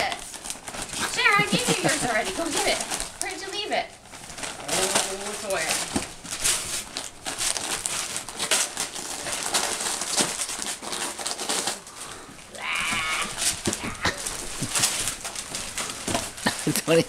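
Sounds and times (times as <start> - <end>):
wrapping paper tearing: 0.0 - 17.0.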